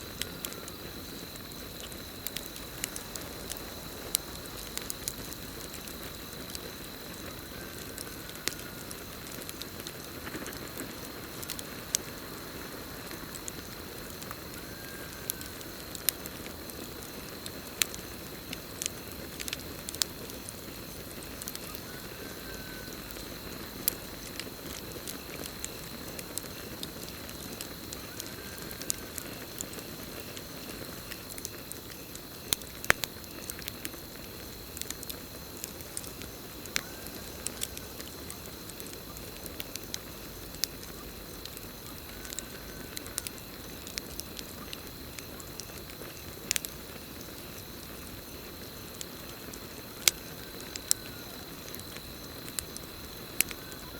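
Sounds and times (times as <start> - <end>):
campfire crackling and popping: 0.0 - 53.9
cricket trill: 0.0 - 53.9
low rush of flames: 0.0 - 53.9.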